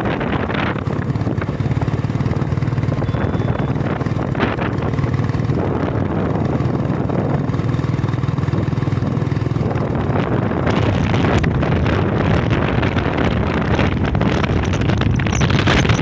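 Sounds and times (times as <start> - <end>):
road noise: 0.0 - 16.0
vehicle engine hum: 0.0 - 16.0
wind rushing over microphone: 0.0 - 16.0.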